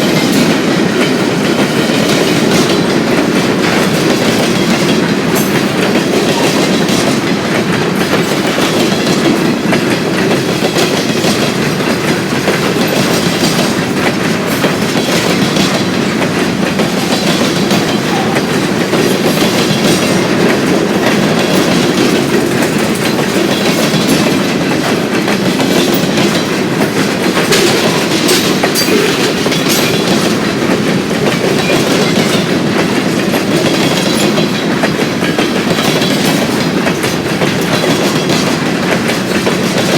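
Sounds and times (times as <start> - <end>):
train wheels rumbling on rails: 0.0 - 39.9
wheels clicking over rail joints: 0.0 - 39.9.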